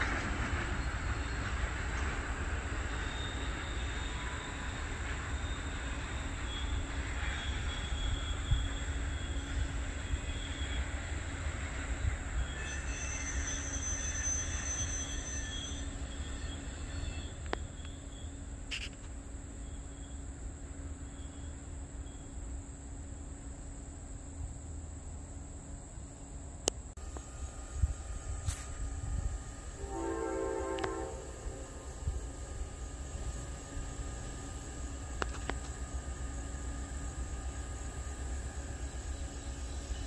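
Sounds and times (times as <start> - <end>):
high wheel squeals: 0.0 - 20.4, 27.4 - 40.0
freight train rumble: 0.0 - 40.0.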